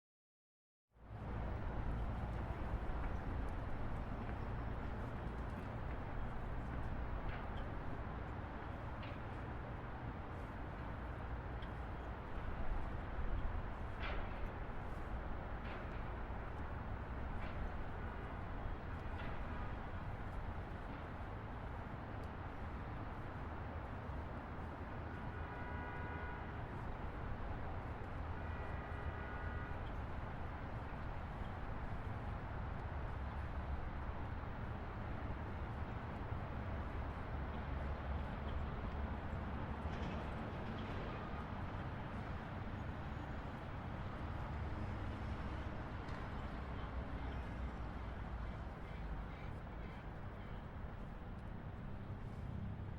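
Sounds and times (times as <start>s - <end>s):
traffic rumble: 1.1s - 52.9s.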